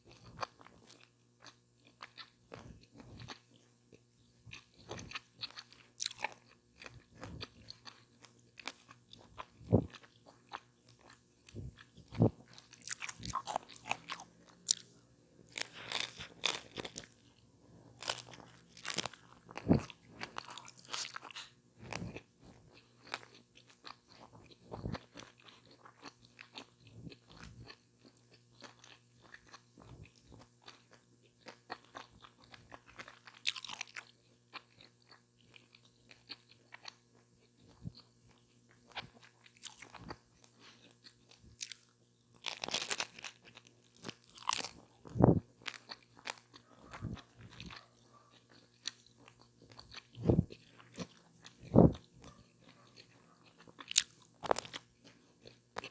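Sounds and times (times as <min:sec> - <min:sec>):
crisp crunching bites and chewing: 0:04.5 - 0:17.4, 0:18.0 - 0:55.9.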